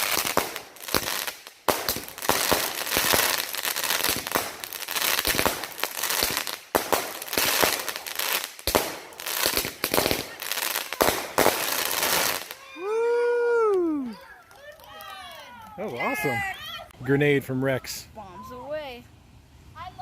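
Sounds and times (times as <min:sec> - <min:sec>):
fireworks crackling and popping: 0:00.0 - 0:13.0, 0:13.6 - 0:17.0.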